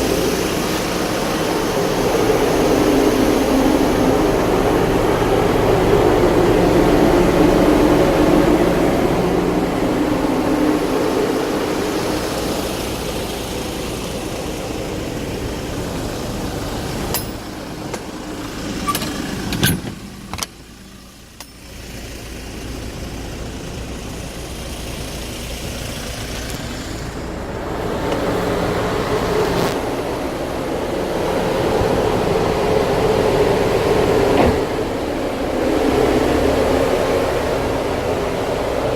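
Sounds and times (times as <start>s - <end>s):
truck engine rumble: 0.0s - 38.9s.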